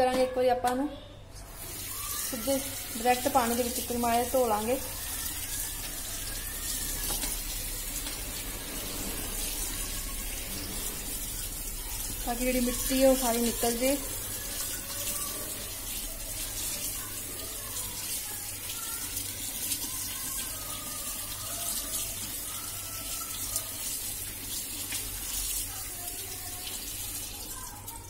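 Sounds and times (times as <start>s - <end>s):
tap water running into steel bowl: 1.5s - 28.0s.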